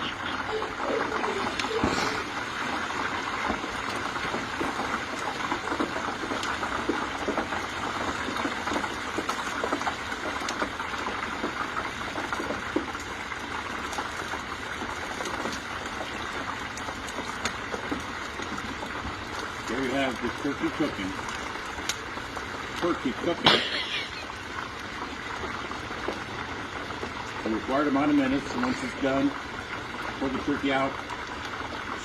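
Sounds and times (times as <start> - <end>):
crackling pops: 0.0 - 32.0
oil bubbling and sizzling: 0.0 - 32.0.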